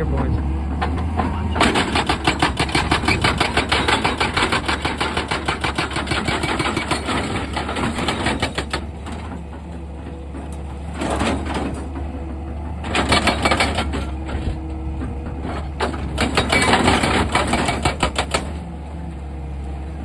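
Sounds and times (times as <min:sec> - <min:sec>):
excavator engine droning: 0:00.0 - 0:20.0.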